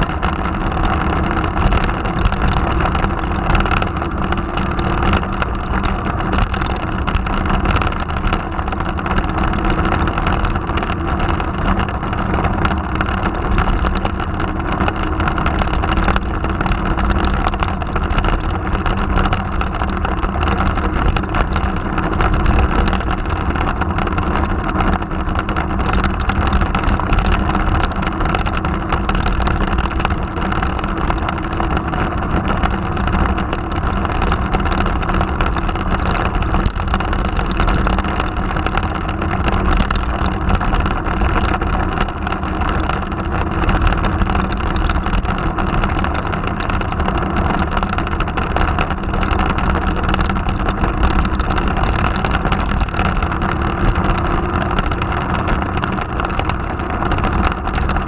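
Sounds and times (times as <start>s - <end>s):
motorcycle engine cruising: 0.0s - 58.0s
wind rushing over camera: 0.0s - 58.0s.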